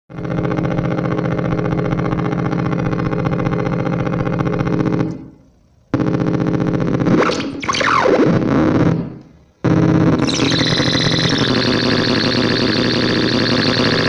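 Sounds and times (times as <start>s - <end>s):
buzzing electronic drone: 0.1s - 14.0s.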